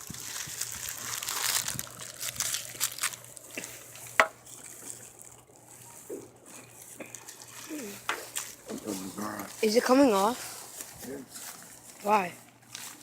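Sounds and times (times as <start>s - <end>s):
wrapping crinkling and rustling: 0.0s - 13.0s.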